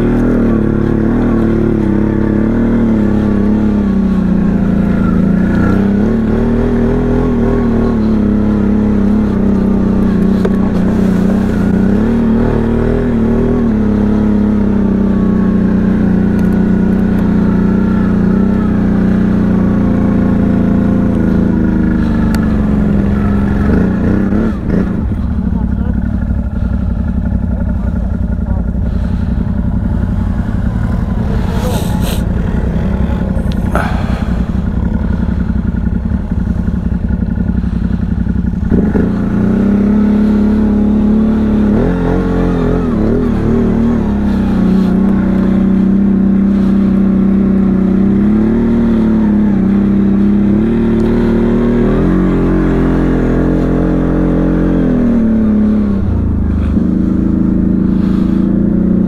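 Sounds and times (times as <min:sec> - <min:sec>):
atv engine under load: 0:00.0 - 0:59.0.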